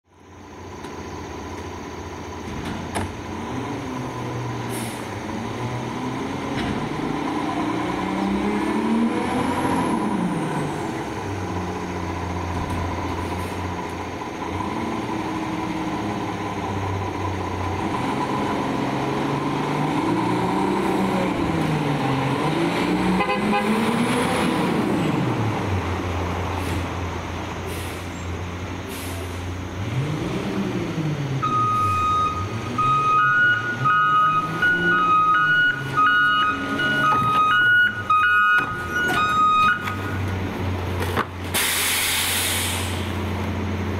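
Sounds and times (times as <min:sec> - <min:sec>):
garbage truck engine revving: 0:00.4 - 0:43.9.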